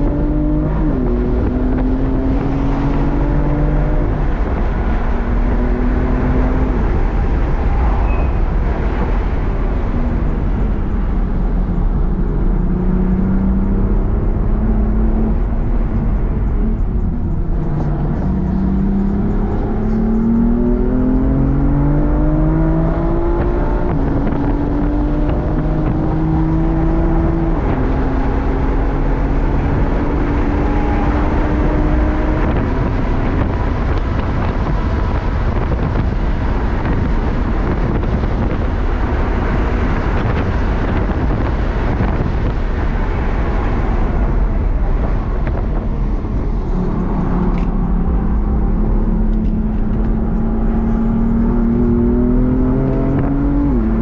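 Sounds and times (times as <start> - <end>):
car engine at full throttle: 0.0 - 54.0
wind and road noise: 0.0 - 54.0.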